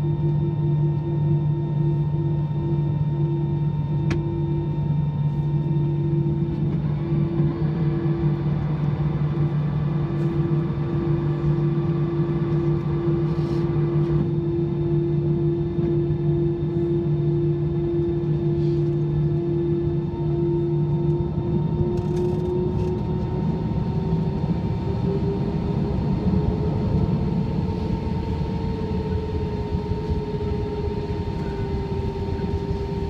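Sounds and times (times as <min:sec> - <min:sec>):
aircraft cabin hum: 0:00.0 - 0:33.0.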